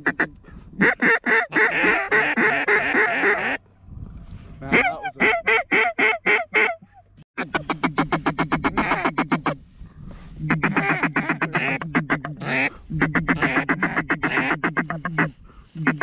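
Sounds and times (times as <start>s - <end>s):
duck call quacks: 0.0s - 3.6s, 4.7s - 9.6s, 10.5s - 16.0s
goose call honks: 0.0s - 3.6s, 4.7s - 9.6s, 10.4s - 16.0s.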